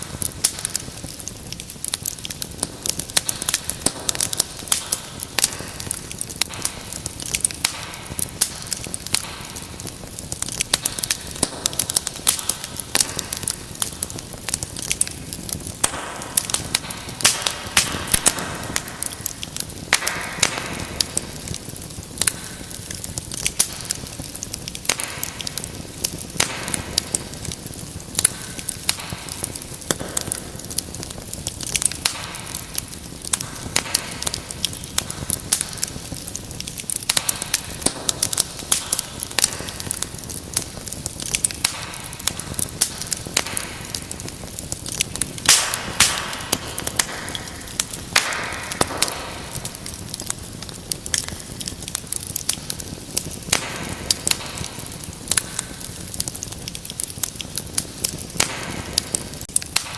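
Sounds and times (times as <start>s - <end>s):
soft fire hiss: 0.0s - 59.9s
wood fire crackling and popping: 0.0s - 59.9s.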